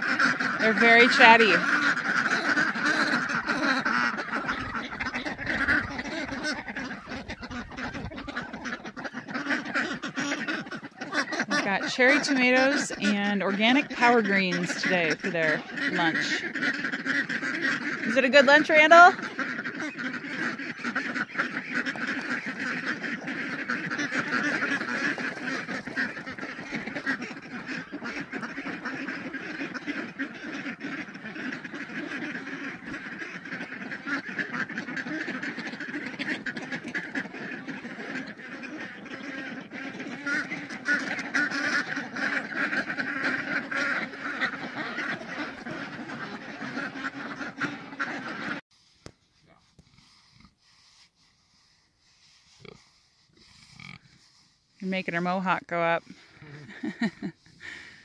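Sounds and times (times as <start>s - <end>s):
ducks quacking: 0.0s - 48.6s, 52.2s - 58.0s.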